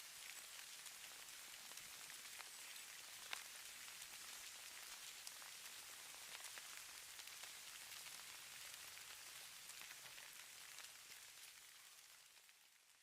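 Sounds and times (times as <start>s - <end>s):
hiss of falling snow: 0.0s - 12.5s
tiny ticks of flakes landing: 0.1s - 12.7s.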